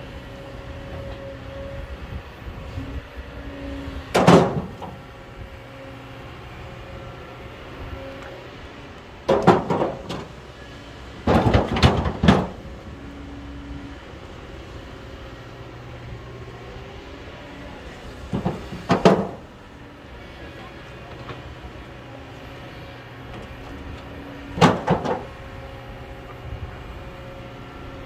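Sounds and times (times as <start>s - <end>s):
distant excavator diesel engine: 0.0s - 28.0s
faint hydraulic whine: 0.0s - 28.0s.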